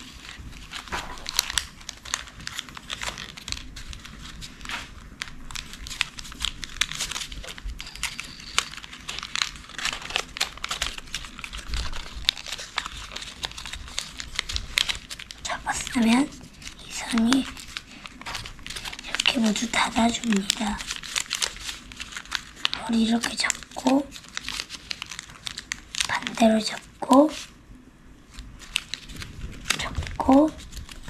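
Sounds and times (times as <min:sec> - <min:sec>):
paper rustling and crinkling: 0:00.0 - 0:27.6, 0:28.2 - 0:31.0.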